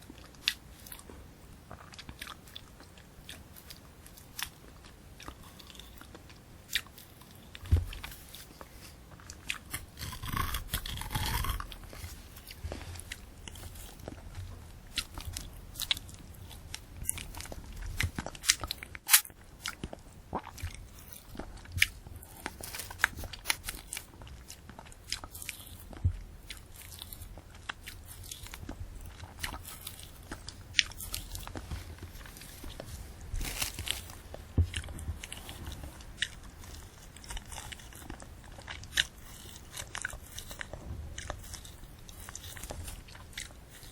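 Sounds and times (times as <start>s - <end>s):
chewing candy apple: 0.0s - 43.9s.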